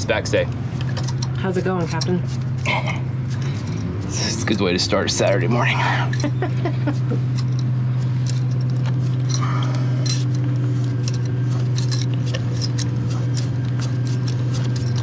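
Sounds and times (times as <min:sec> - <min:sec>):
steady low hum: 0:00.0 - 0:15.0
metallic clinks of rigging: 0:02.0 - 0:06.5, 0:07.2 - 0:15.0.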